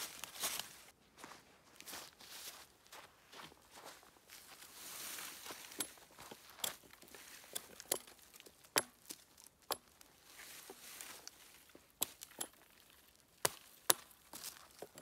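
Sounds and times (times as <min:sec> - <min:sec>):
footsteps on forest floor: 0:00.0 - 0:15.0
rustling on forest floor: 0:00.0 - 0:15.0.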